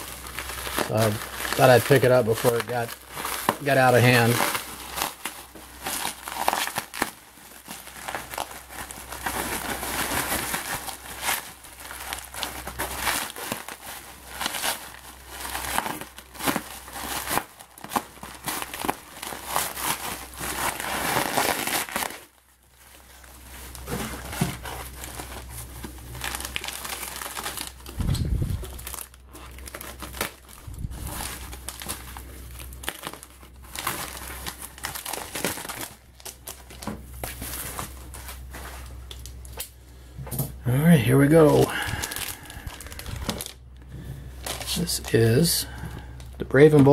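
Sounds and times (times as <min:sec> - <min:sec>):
bubble wrap and paper crinkling: 0:00.0 - 0:46.9.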